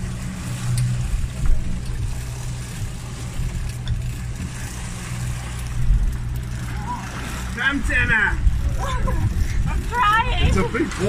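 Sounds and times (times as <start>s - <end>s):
boat engine humming: 0.0s - 11.0s
water rushing around hull: 0.0s - 11.0s.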